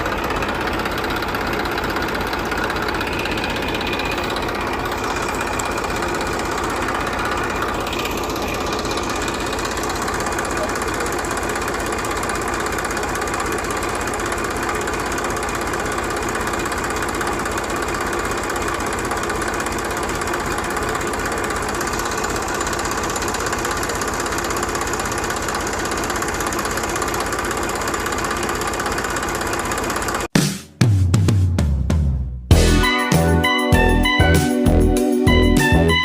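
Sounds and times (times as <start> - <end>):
small tractor engine knocking: 0.0 - 30.3.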